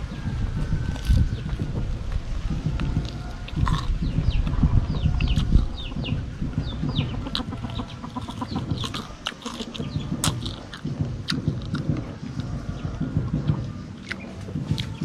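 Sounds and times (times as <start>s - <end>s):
birds chirping: 0.0s - 15.0s
chewing crispy food: 0.4s - 6.0s, 7.2s - 15.0s.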